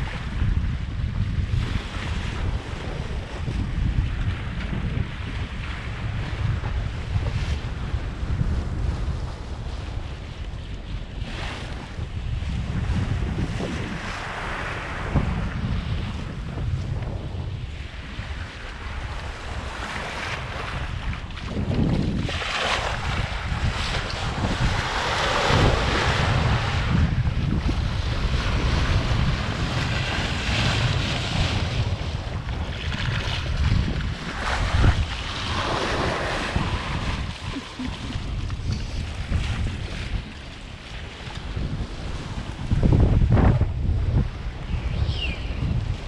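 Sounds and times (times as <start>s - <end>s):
water rushing along hull: 0.0s - 46.0s
wind buffeting microphone: 0.0s - 46.0s.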